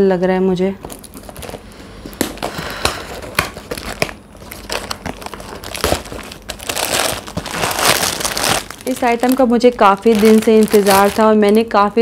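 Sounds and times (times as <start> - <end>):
packaging crinkling and snapping: 0.8 - 11.8.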